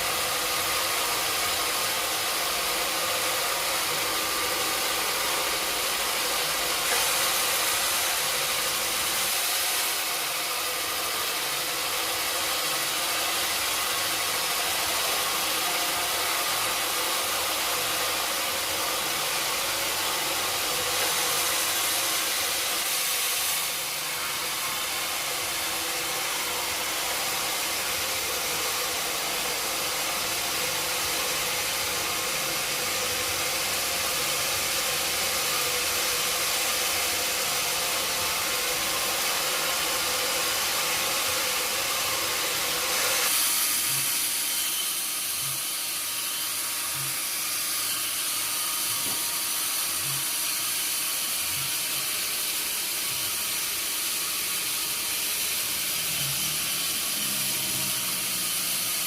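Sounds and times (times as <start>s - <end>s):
sawmill machinery hissing: 0.0s - 59.0s.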